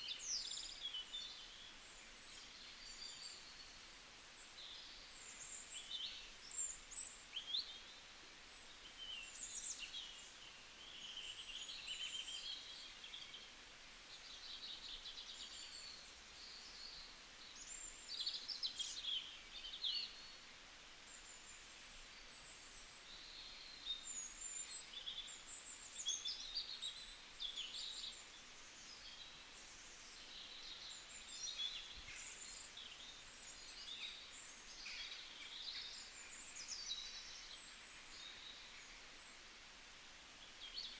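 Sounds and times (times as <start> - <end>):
small birds chirping: 0.0 - 39.6, 40.4 - 40.9
faint steady hiss: 0.0 - 40.9.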